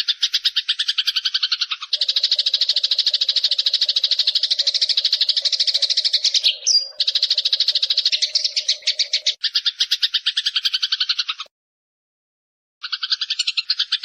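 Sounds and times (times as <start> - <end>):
sparrow chattering: 0.0 - 11.5, 12.8 - 14.0.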